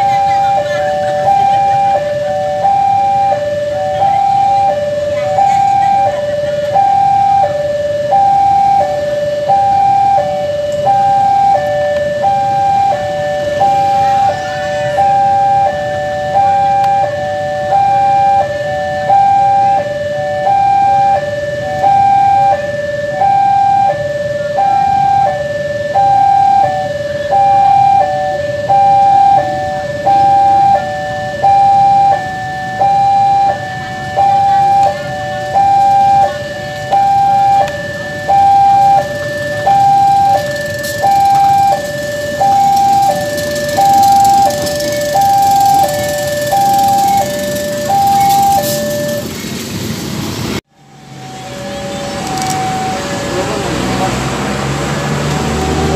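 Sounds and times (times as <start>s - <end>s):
level crossing two-tone alarm: 0.0s - 49.8s, 50.8s - 55.9s.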